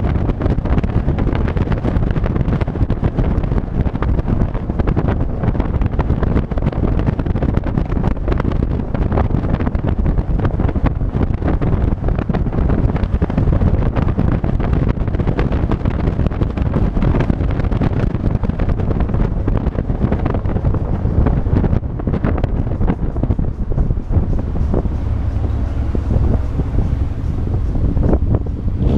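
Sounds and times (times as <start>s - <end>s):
road and engine noise: 0.0s - 28.9s
wind buffeting microphone: 0.0s - 28.9s.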